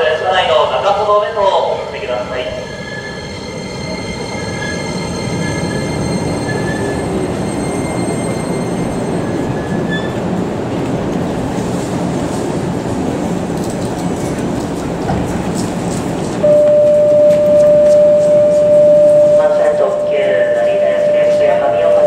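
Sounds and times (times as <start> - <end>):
electric train rumbling on rails: 0.0 - 22.0.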